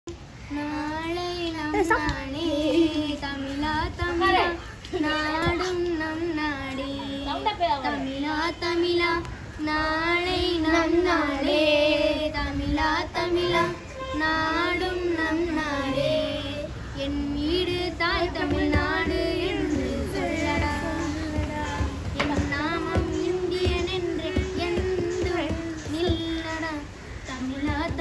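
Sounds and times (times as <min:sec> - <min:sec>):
boy singing solo: 0:00.5 - 0:28.0.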